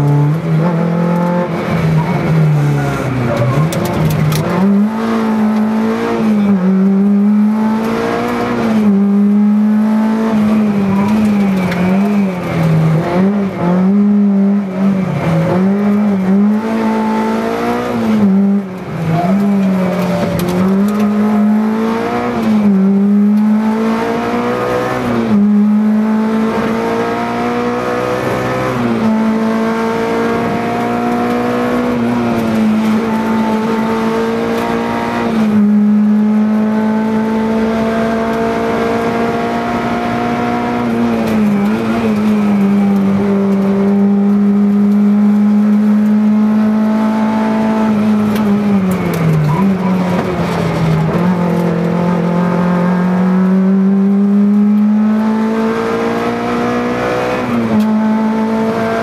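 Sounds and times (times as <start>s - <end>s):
rally car engine at high revs: 0.0s - 59.0s.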